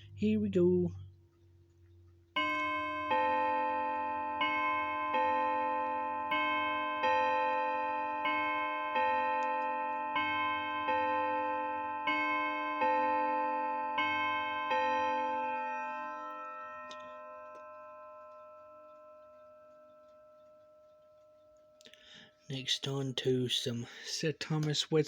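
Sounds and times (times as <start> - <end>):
clock chime rods ringing: 2.3 - 25.0.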